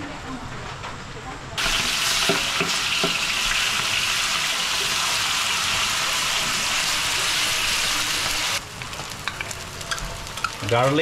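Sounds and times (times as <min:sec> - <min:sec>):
food sizzling in hot oil: 0:01.6 - 0:11.0.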